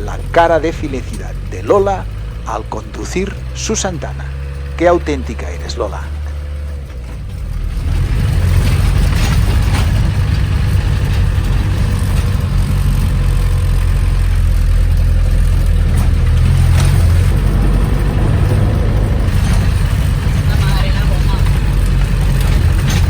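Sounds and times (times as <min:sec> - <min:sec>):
engine running with low rumble: 0:00.0 - 0:23.0.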